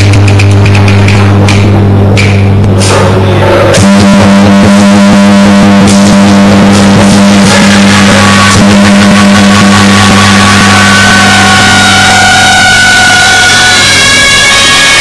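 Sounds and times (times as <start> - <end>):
drum beats: 0.0 - 13.4
higher sustained notes: 1.1 - 15.0.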